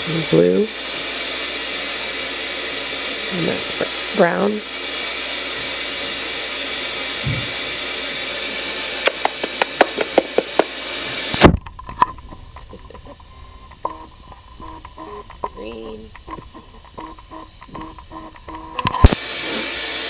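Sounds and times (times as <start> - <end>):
loud rushing hiss: 0.0 - 11.6, 12.3 - 20.0.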